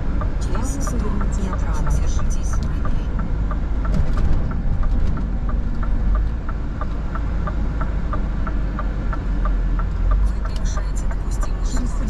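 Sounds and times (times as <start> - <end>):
regular light ticking: 0.0 - 12.0
truck diesel engine rumbling: 0.0 - 12.0.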